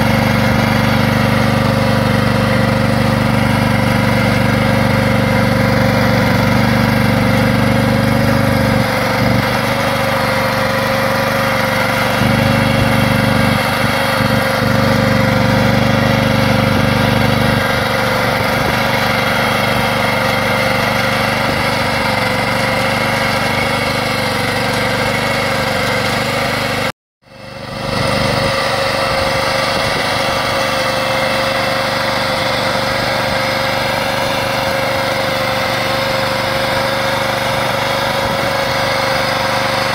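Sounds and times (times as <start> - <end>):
rotary plough churning soil: 0.0 - 39.9
small tractor engine running: 0.0 - 39.9.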